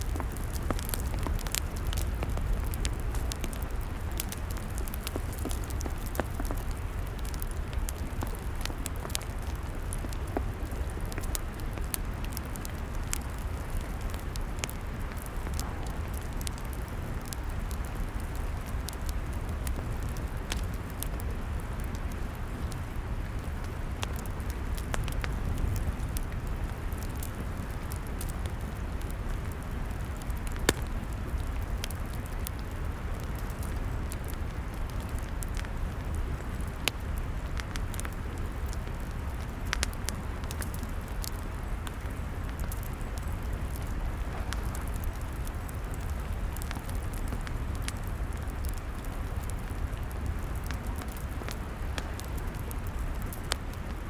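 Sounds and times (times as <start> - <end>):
log fire crackling and popping: 0.0 - 54.0
low fire rumble: 0.0 - 54.0.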